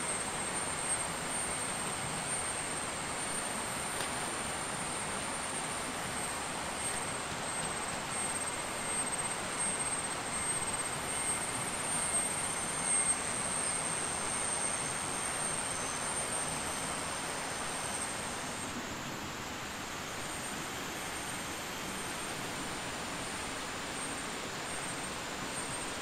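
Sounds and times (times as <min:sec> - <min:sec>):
high insect drone: 0:00.0 - 0:26.0.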